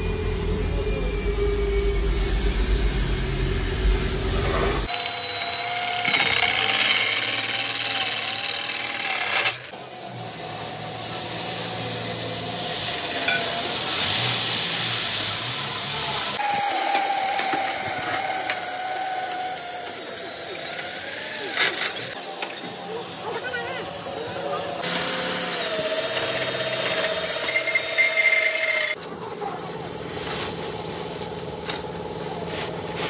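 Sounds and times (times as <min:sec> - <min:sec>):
power tools working steel: 0:00.0 - 0:33.0.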